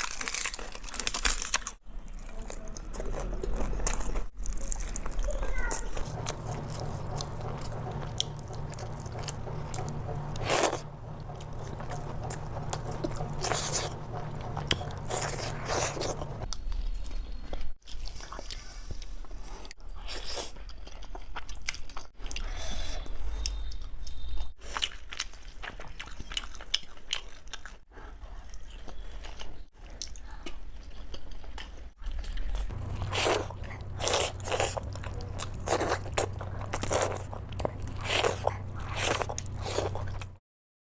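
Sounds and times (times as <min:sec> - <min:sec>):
person chewing food: 0:00.0 - 0:40.4.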